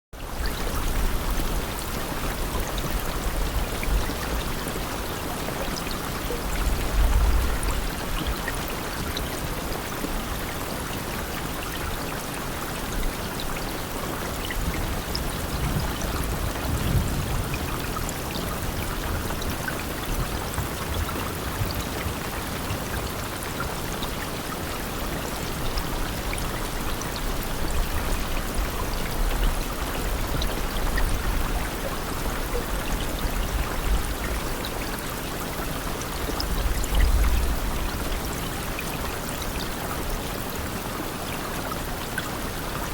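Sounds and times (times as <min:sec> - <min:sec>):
rain falling: 0:00.2 - 0:42.9.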